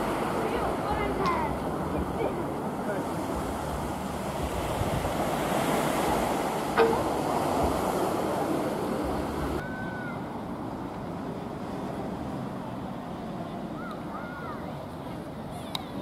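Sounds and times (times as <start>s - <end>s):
sea waves washing onto beach: 0.0s - 16.0s.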